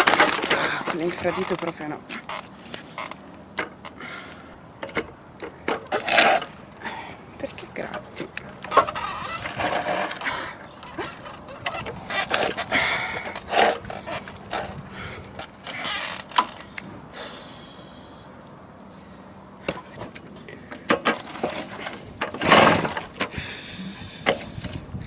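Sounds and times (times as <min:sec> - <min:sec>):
moped pedal crank rattling and clunking: 0:00.0 - 0:04.0, 0:04.6 - 0:16.8, 0:19.7 - 0:23.4, 0:24.0 - 0:25.0.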